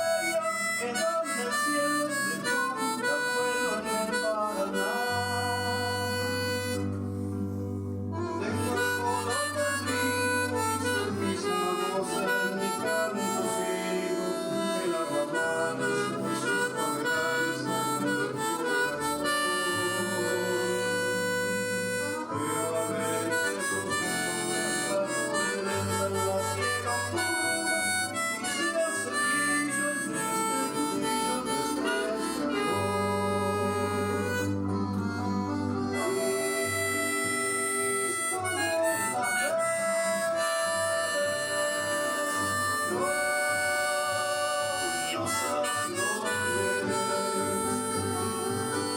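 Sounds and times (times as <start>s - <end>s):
harmonica melody: 0.0s - 48.9s.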